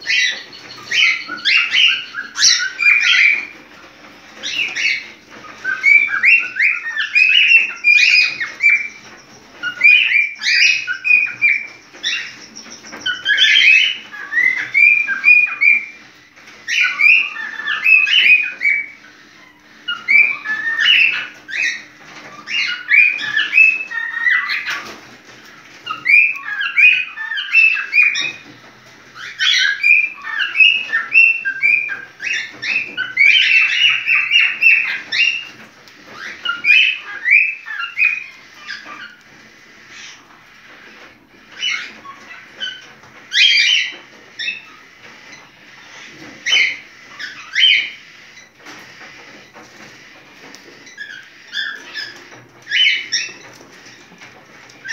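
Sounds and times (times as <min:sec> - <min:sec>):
cockatiel chirps and whistles: 0:00.0 - 0:03.5, 0:04.4 - 0:16.0, 0:16.7 - 0:19.0, 0:19.9 - 0:25.0, 0:25.8 - 0:28.5, 0:29.2 - 0:39.3, 0:39.9 - 0:54.2.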